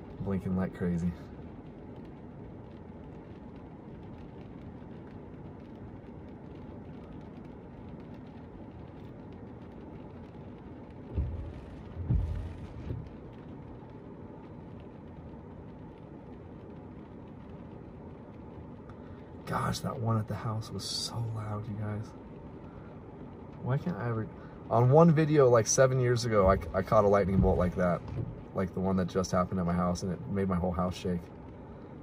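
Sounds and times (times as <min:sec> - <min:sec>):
low background rumble: 0:00.0 - 0:32.0
thunder rumble: 0:00.0 - 0:32.0.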